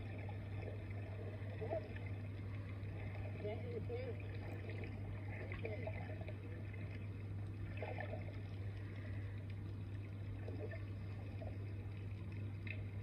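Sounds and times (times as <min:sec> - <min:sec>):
muffled underwater gurgles: 0:00.0 - 0:13.0
steady low hum: 0:00.0 - 0:13.0.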